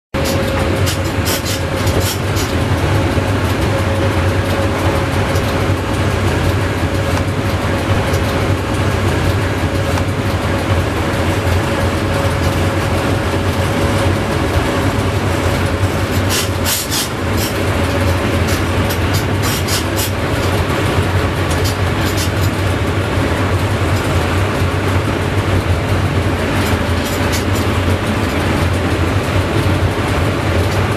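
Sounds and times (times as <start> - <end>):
wheels rumbling on rail: 0.1 - 30.9.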